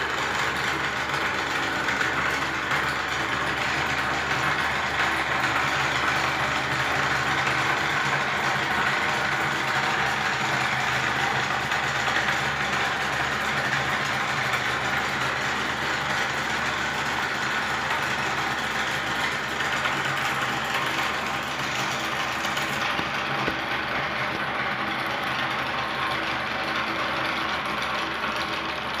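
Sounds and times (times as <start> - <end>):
model motors and fan whirring hum: 0.0 - 29.0.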